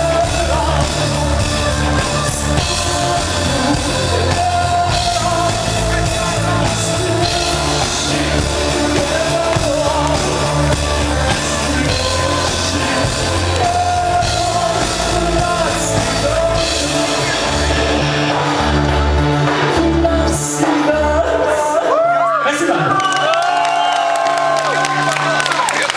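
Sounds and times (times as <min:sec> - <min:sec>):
live rock band playing: 0:00.0 - 0:21.9
person singing: 0:00.0 - 0:22.3.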